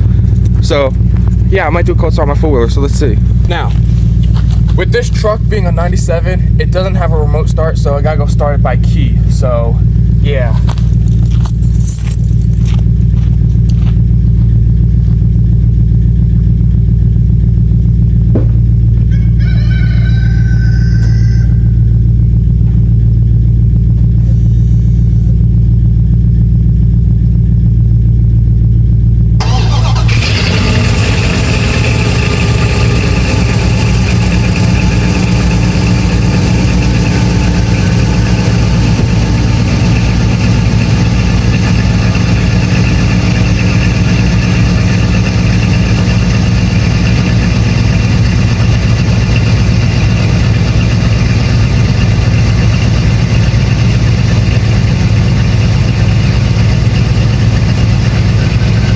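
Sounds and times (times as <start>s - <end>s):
engine cranking and idling: 0.0s - 58.9s.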